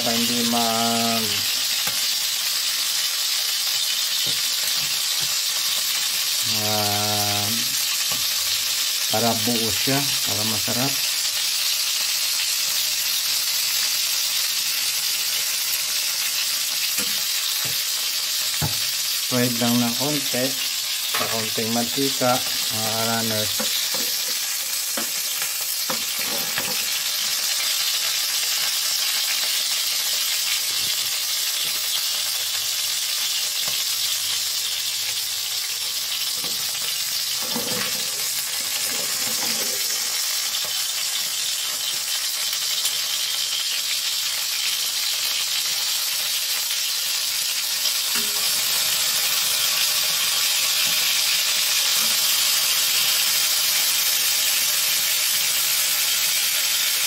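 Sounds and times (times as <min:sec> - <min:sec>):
oil sizzling: 0:00.0 - 0:57.0.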